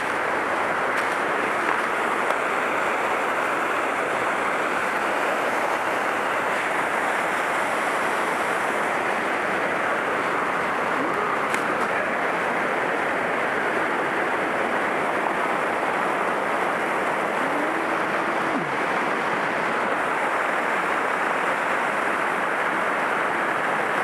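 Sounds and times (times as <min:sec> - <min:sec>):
mountain stream rushing over rocks: 0:00.0 - 0:24.0.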